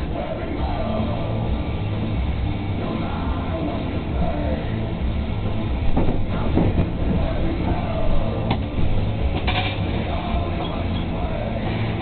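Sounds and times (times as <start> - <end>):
rock music on radio: 0.0 - 12.0
steady low hum: 0.0 - 12.0.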